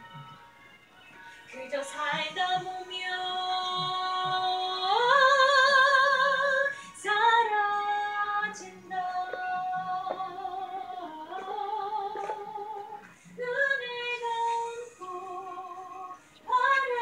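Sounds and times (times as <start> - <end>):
woman singing with vibrato: 1.5 - 17.0.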